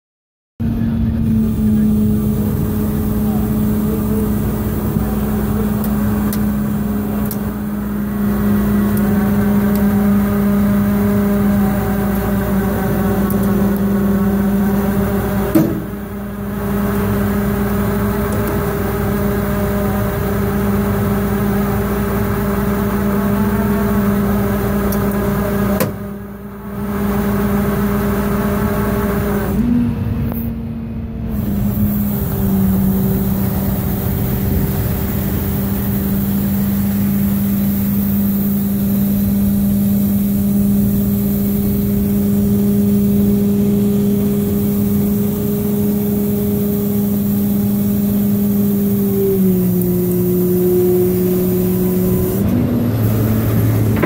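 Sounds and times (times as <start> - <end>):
truck engine droning: 0.6 - 54.0.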